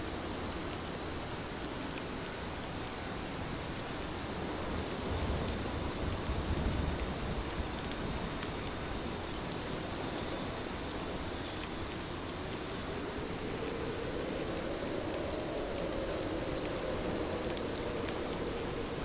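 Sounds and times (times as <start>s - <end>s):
heavy rain falling: 0.1s - 19.0s.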